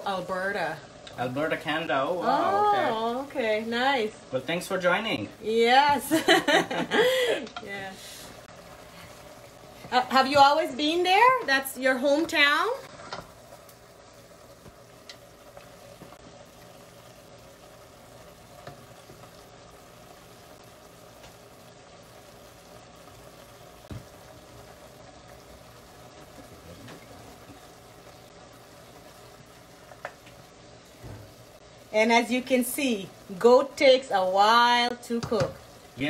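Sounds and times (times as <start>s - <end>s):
meat sizzling in a pot: 0.0s - 36.0s.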